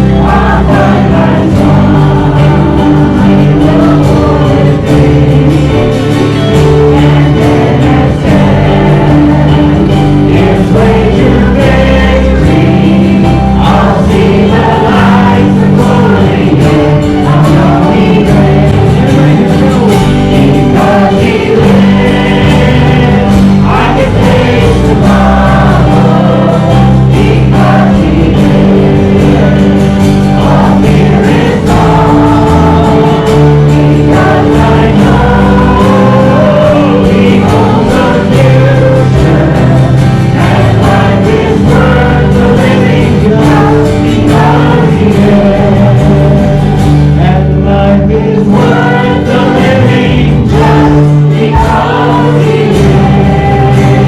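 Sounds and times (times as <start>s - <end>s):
group singing gospel: 0.0s - 54.0s
instrumental accompaniment: 0.0s - 54.0s.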